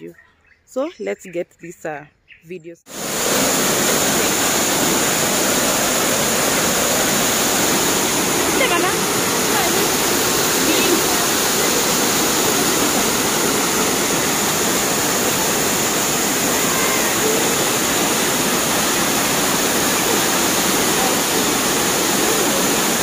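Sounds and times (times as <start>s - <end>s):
waterfall rushing: 2.9s - 23.0s.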